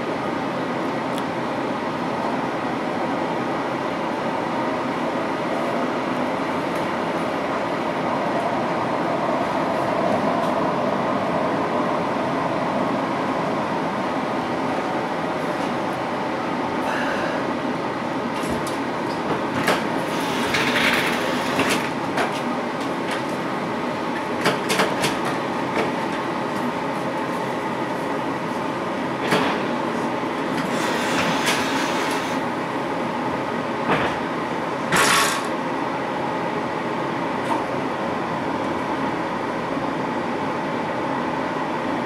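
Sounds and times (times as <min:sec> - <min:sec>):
tram interior hum: 0:00.0 - 0:42.0.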